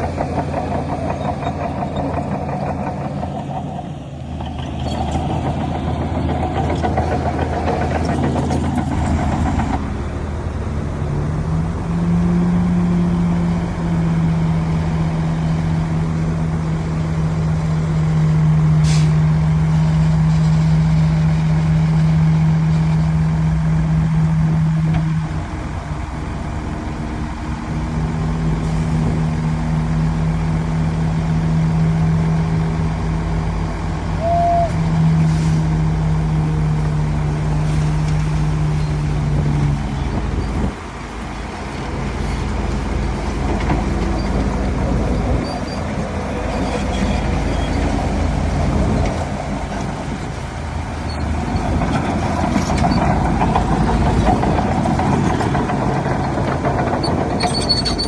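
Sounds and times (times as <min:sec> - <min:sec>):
diesel engine drone: 0:00.0 - 0:58.0
rough noisy machinery working: 0:00.0 - 0:58.0.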